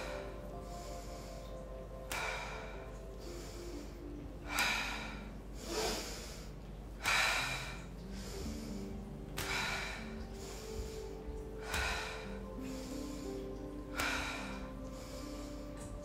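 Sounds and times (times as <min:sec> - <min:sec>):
soft breath: 0:00.0 - 0:16.0.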